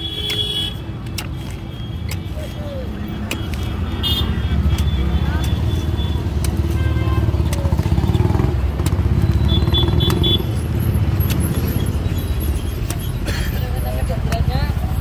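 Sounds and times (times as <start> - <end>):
vehicle engine rumbling: 0.0 - 15.0
sickle blade chopping fruit husk: 0.1 - 11.8, 12.8 - 13.2, 14.2 - 14.6.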